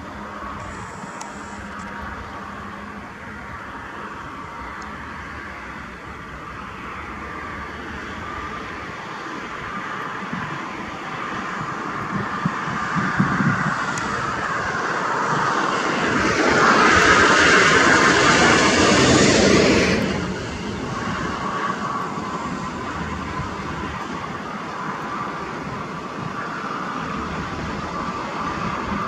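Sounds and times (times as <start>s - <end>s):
vehicle at highway speed: 0.0s - 29.0s.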